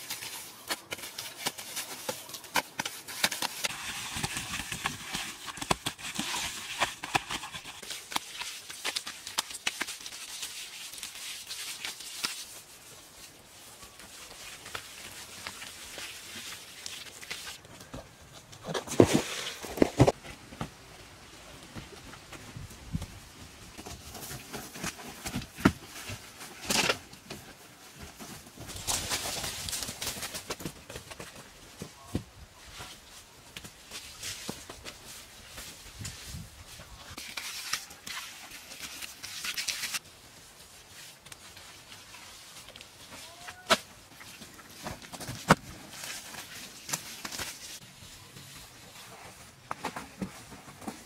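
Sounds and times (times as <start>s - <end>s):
rustling leaves and dry grass: 0.0s - 51.0s.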